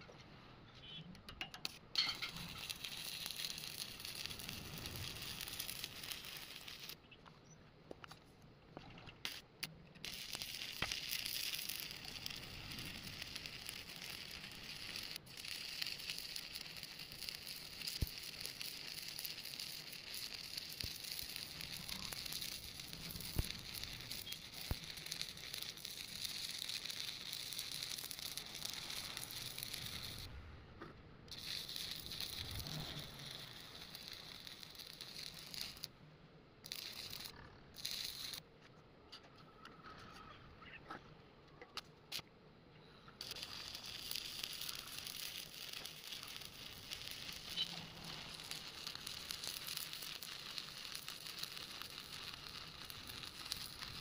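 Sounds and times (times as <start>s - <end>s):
arc welding crackling: 0.8s - 7.2s, 8.8s - 30.4s, 31.3s - 36.0s, 36.6s - 38.4s, 41.8s - 42.2s, 43.2s - 54.0s.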